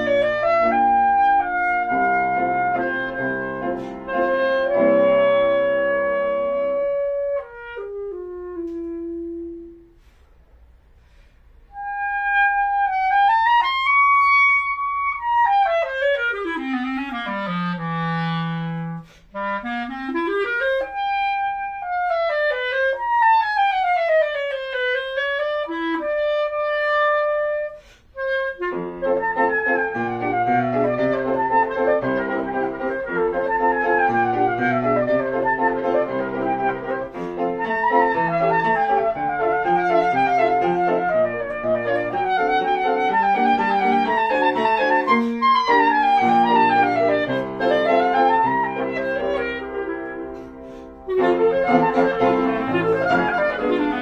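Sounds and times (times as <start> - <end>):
clarinet runs: 0.0 - 9.9, 11.8 - 54.0
piano accompaniment: 0.0 - 10.0, 11.7 - 54.0.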